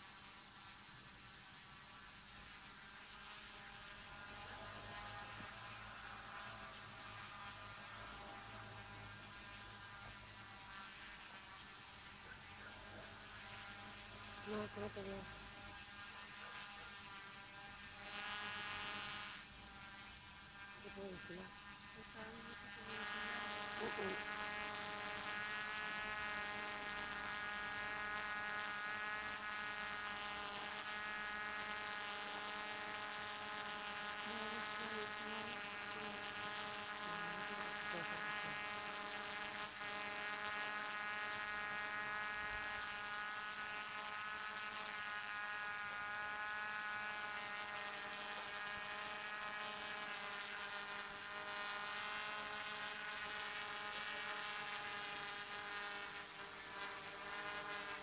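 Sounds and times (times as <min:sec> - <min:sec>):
drone motors buzzing whine: 0:00.0 - 0:58.0.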